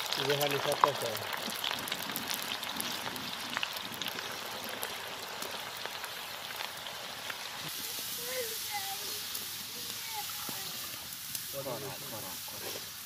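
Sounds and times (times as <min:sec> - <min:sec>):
potatoes sizzling in deep oil: 0:00.0 - 0:13.0.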